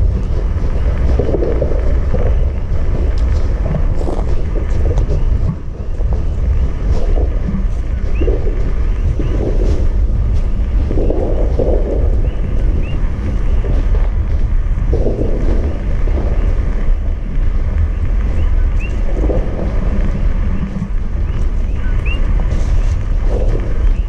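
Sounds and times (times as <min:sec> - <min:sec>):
lava deep rumble and roar: 0:00.0 - 0:24.0.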